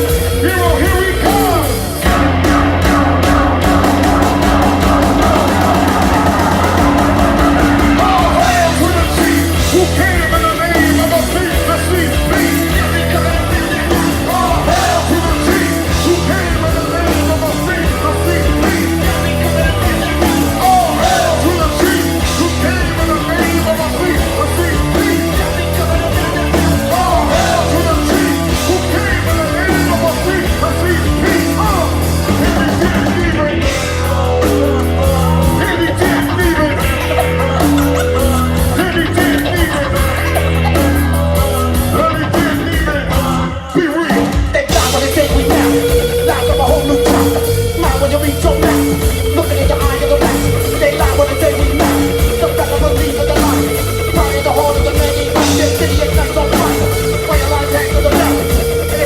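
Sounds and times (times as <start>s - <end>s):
bass guitar: 0.0s - 59.0s
drums: 0.0s - 59.0s
heavy electric guitar: 0.0s - 59.0s.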